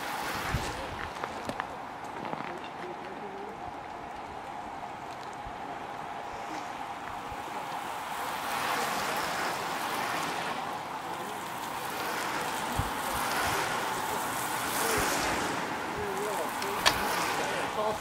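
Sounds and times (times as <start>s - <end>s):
bicycle tyres hissing on wet road: 0.0s - 18.0s.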